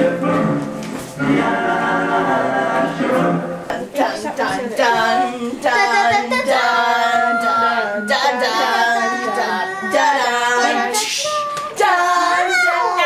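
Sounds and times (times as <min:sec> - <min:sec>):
high singing voice: 0:00.0 - 0:13.0.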